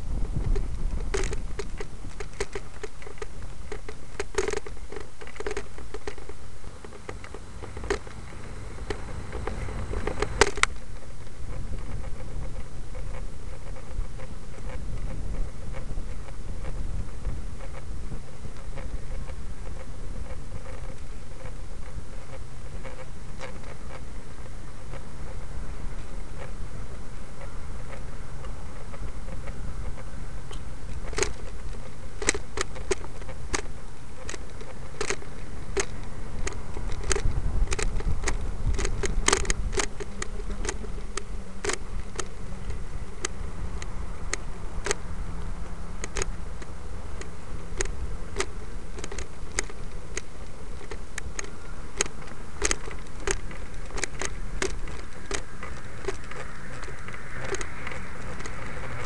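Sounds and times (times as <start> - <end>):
rolling over pavement: 0.0 - 59.0
sharp clicks and rattles: 0.0 - 59.0
wind rumble: 0.0 - 59.0.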